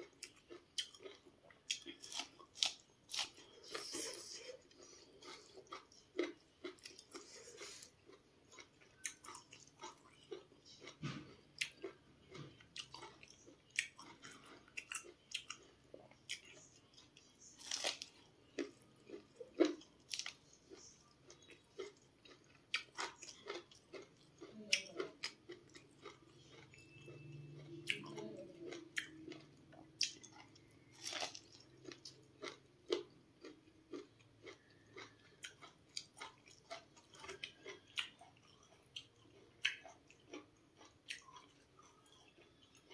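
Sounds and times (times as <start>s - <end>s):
chewing: 0.0s - 42.9s
teeth crunching corn kernels: 0.0s - 42.9s.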